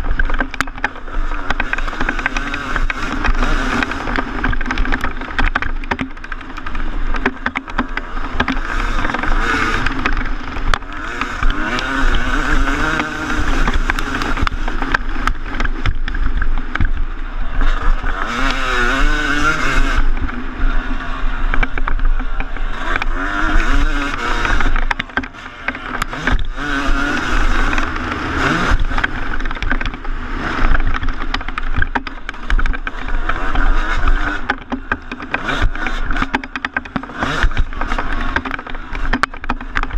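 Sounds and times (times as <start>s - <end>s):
chassis knocks and rattles: 0.0s - 39.9s
motocross engine revving: 0.0s - 39.9s.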